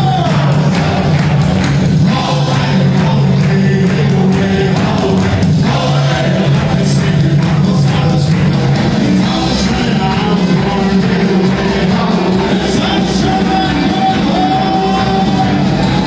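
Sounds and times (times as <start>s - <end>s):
live rock band playing: 0.0s - 16.0s
person singing: 0.0s - 16.0s
steady drum beat: 0.0s - 16.0s.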